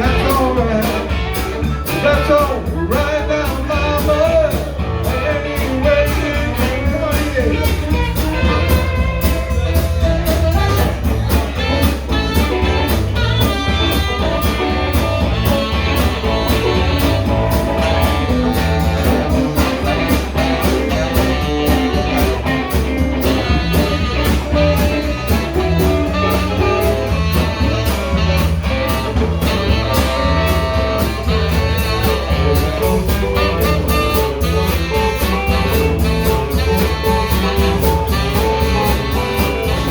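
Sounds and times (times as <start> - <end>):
bluesy band instrumental: 0.0 - 39.9
guitar: 0.0 - 39.9.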